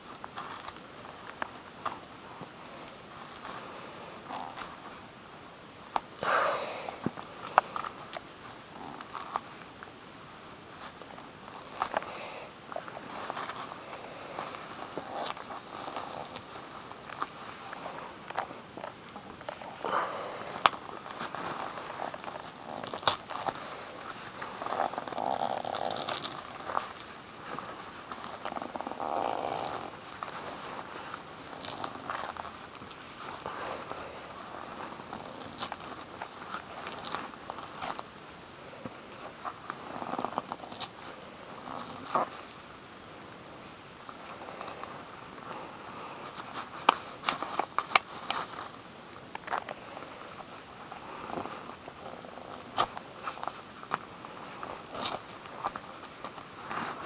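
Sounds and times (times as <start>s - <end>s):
rustling and scraping of mesh bag: 0.0s - 5.1s, 5.8s - 42.8s, 43.4s - 57.0s.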